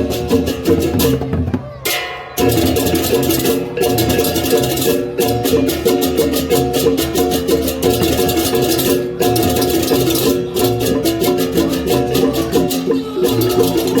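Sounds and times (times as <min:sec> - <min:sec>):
cymbals clashing rapidly: 0:00.0 - 0:14.0
ringing metal keys and gongs: 0:01.9 - 0:14.0.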